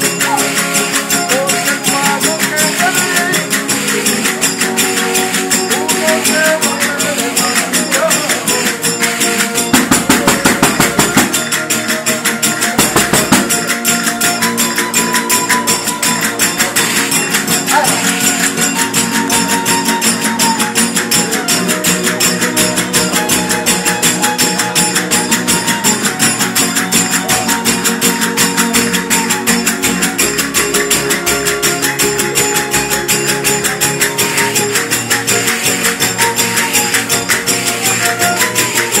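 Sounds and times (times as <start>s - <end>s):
strummed guitars: 0.0s - 39.0s
tambourine jingles: 0.0s - 39.0s
violin melody: 0.0s - 39.0s.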